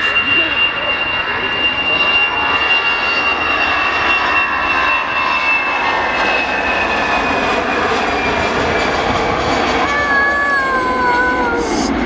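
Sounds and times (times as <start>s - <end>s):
high fan whine: 0.0s - 12.0s
jet engines at takeoff thrust: 0.0s - 12.0s.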